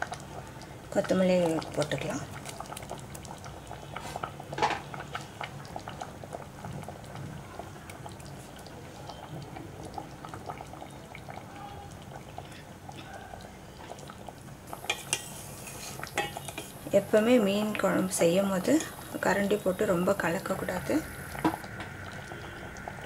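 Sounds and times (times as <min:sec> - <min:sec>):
curry bubbling in a pot: 0:00.0 - 0:23.0.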